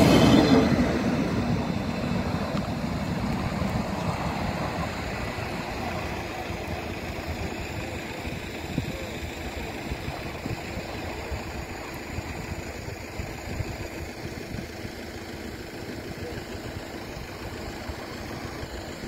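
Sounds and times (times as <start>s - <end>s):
train engine and wheel rumble: 0.0s - 19.0s.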